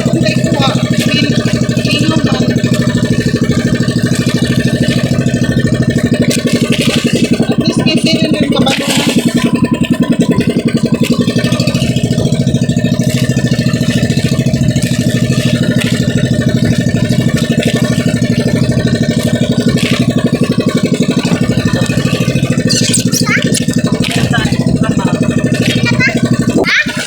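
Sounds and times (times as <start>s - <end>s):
small boat engine chugging: 0.0s - 27.0s.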